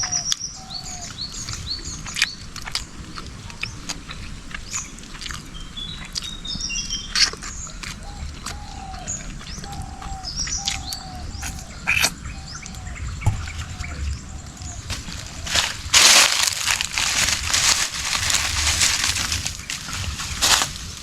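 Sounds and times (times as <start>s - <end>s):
forest birds chirping: 0.0s - 21.0s.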